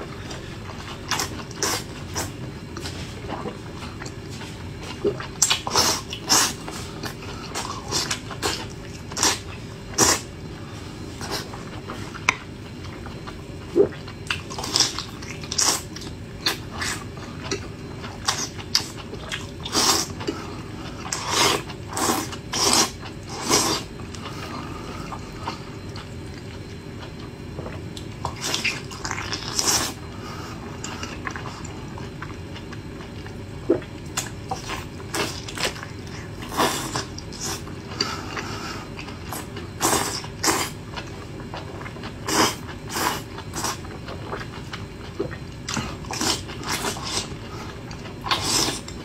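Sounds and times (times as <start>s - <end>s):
low background hum: 0.0s - 49.0s
person chewing wet food: 0.0s - 49.0s.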